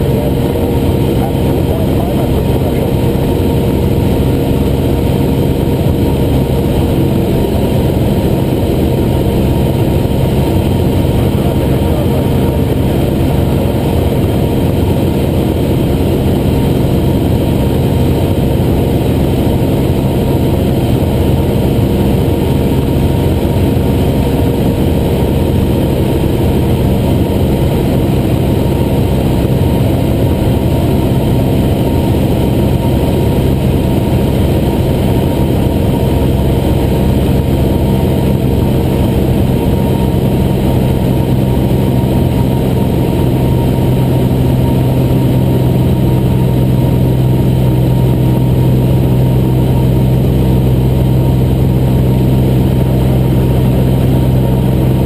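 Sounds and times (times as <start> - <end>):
plane engine and propeller drone: 0.0 - 55.0.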